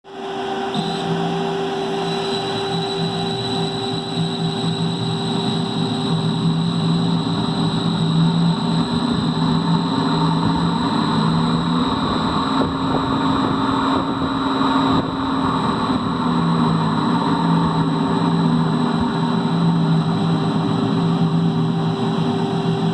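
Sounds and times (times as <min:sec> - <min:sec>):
fan motor humming: 0:00.3 - 0:22.9.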